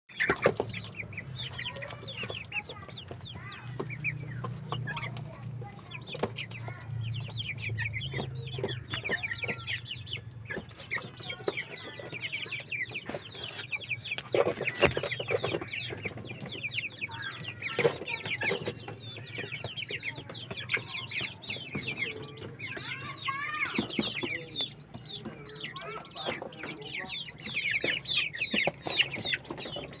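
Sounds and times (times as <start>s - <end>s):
chicken clucks: 0.1s - 30.0s
chicks peeping and cheeping: 0.1s - 30.0s.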